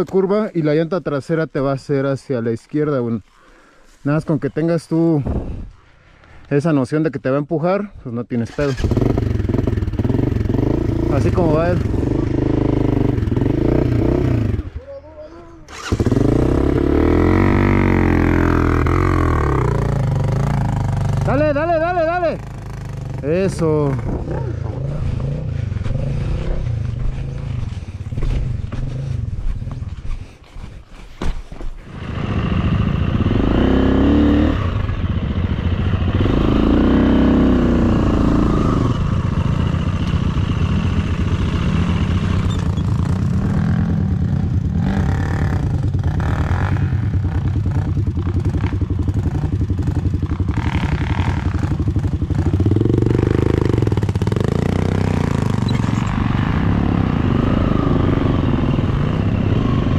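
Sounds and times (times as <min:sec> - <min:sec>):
dirt bike engine revving: 0:08.5 - 0:14.8, 0:15.7 - 0:29.7, 0:31.8 - 0:59.9.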